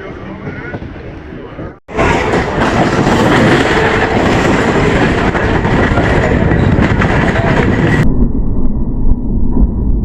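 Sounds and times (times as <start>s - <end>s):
train rumbling on rails: 0.0s - 8.1s.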